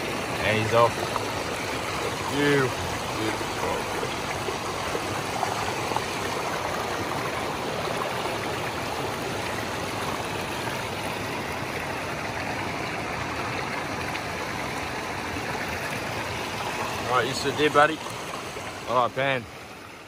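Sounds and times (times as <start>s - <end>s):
stream rushing over stones: 0.0s - 20.0s.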